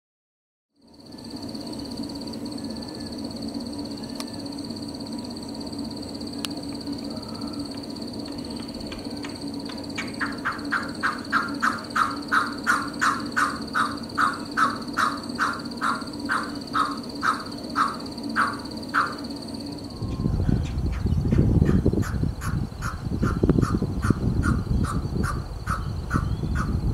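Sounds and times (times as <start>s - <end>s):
low hum: 0.8s - 26.9s
steady high-pitched tone: 0.8s - 26.9s.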